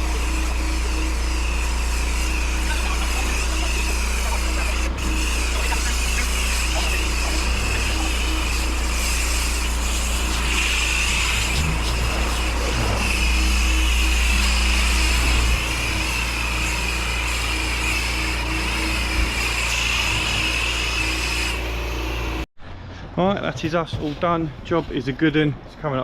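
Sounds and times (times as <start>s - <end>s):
high-pressure water jet hiss: 0.0s - 22.4s
pressure washer engine drone: 0.0s - 22.5s.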